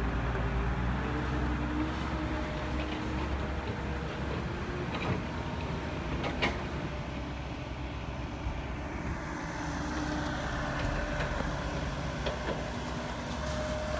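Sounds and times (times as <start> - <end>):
heavy diesel engines running: 0.0 - 13.9.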